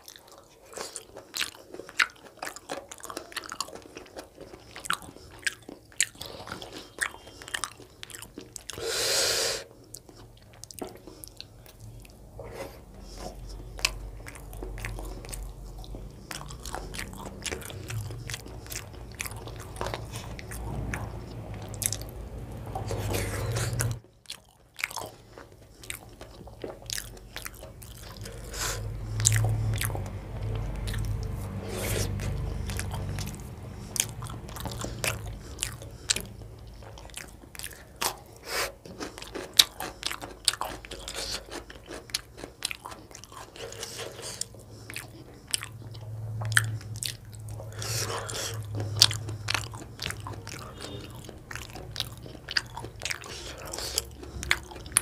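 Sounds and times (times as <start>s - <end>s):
person chewing and smacking: 0.0s - 55.0s.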